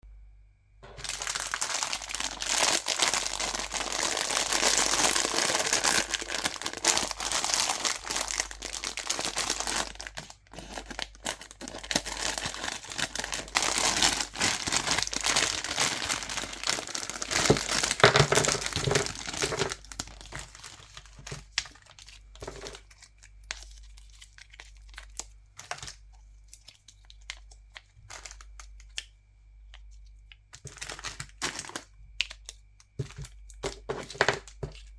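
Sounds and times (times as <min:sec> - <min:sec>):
plastic wrappers crinkling: 0:00.8 - 0:29.0, 0:29.8 - 0:34.9.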